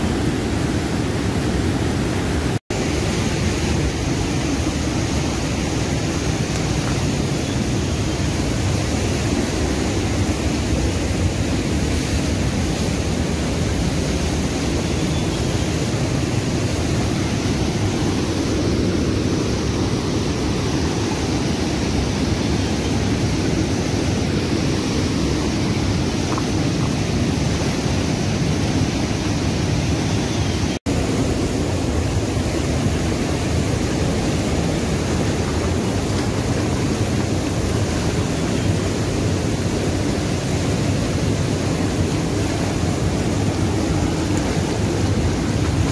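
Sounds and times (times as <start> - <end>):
river rapids roaring: 0.0 - 45.9.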